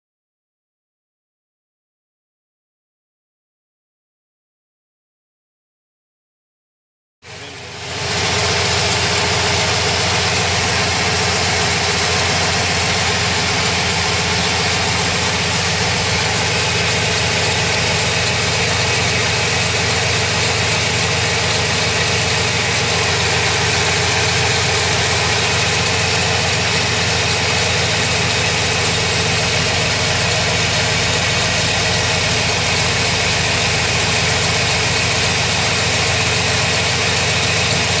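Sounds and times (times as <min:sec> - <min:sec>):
engine idling: 0:07.3 - 0:38.0.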